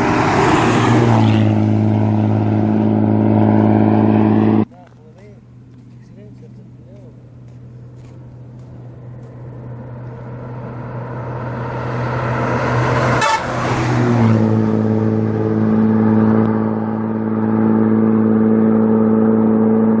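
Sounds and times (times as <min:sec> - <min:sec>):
bus passing by: 0:00.0 - 0:20.0
steady droning note: 0:01.2 - 0:20.0.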